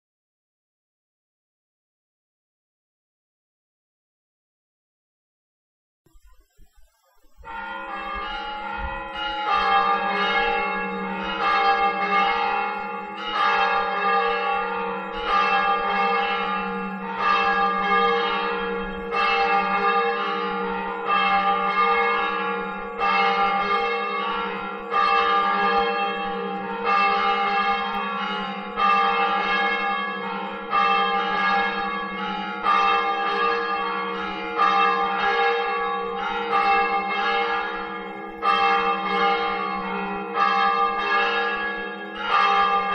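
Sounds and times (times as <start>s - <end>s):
church bell tolling: 7.4s - 42.9s.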